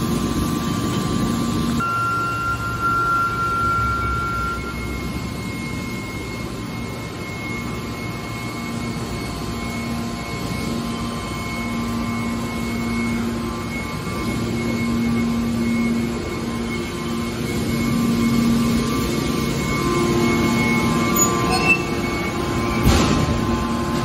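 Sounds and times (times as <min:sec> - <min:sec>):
machine drone: 0:00.0 - 0:24.0
faint high whine: 0:01.7 - 0:23.8.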